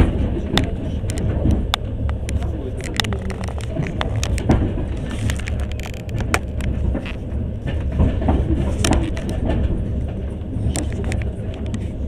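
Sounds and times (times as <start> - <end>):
clicks and rattles: 0.0 - 12.0
train rumble: 0.0 - 12.0.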